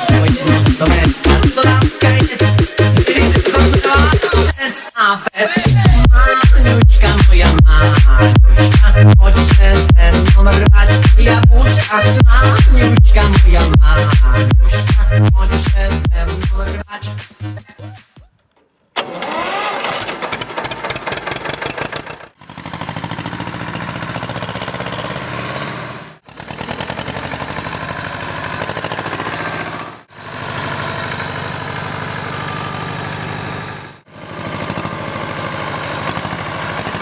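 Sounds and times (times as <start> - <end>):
tractor diesel engine running: 0.0 - 4.7, 5.6 - 16.8, 19.0 - 37.0.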